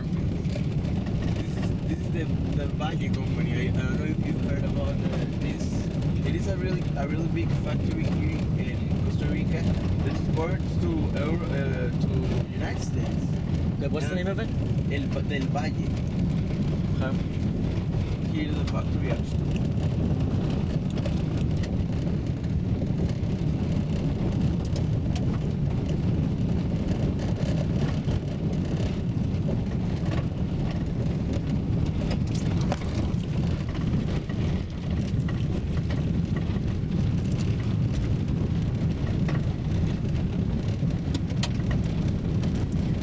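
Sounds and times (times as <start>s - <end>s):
engine and tyre rumble: 0.0s - 43.0s
small clicks and ticks: 0.2s - 43.0s.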